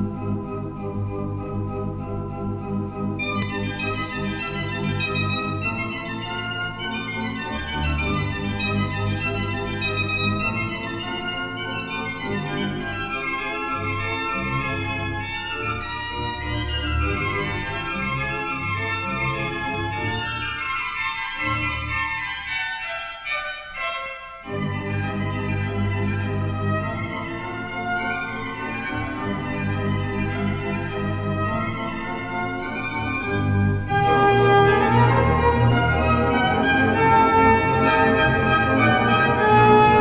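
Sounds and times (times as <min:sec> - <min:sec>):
pipe organ playing: 0:00.0 - 0:40.0.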